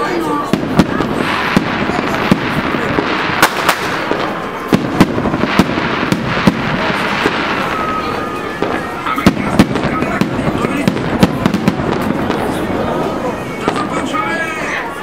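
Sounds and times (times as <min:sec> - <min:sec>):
firecrackers crackling: 0:00.0 - 0:15.0
fireworks bangs: 0:00.0 - 0:15.0.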